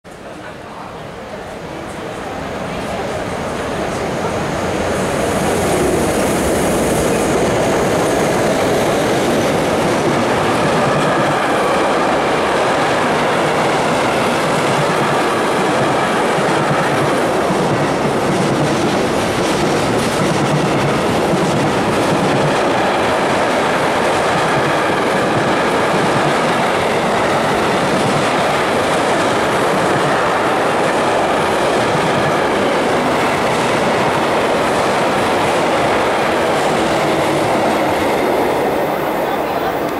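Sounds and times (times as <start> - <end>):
train wheels rolling over rails: 1.9 - 39.9.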